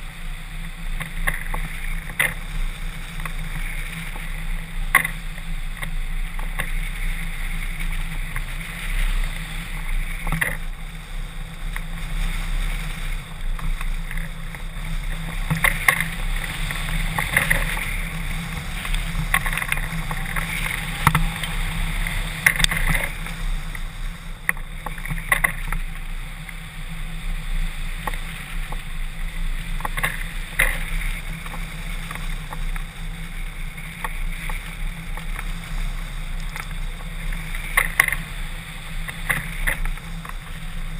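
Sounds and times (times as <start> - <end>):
wind noise on microphone: 0.0 - 40.9.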